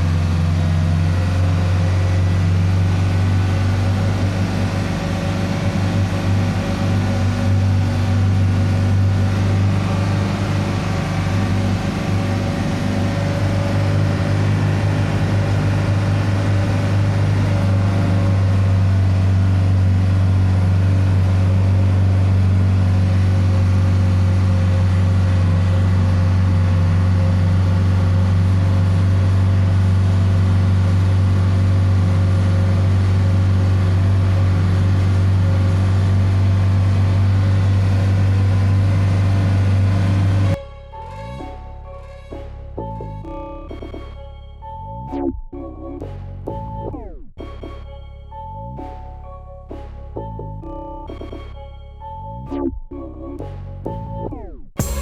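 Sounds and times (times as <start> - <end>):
low engine drone: 0.0 - 55.0.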